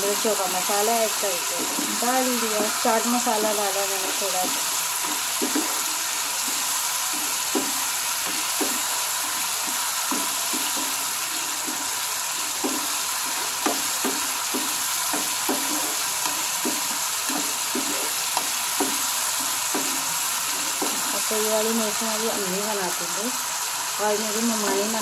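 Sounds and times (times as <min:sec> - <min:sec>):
chillies sizzling in a pan: 0:00.0 - 0:25.0
spatula scraping and knocking pan: 0:00.1 - 0:22.4.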